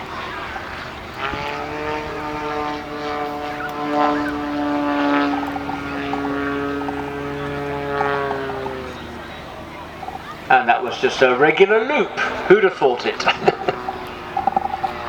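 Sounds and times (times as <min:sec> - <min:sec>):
model aircraft engine droning: 0:00.0 - 0:15.0.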